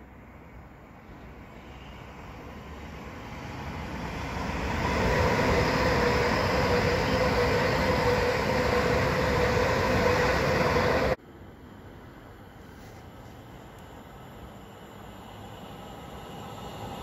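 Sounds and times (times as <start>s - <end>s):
electric train passing at speed: 0.0s - 17.0s
faint hum: 0.0s - 17.0s.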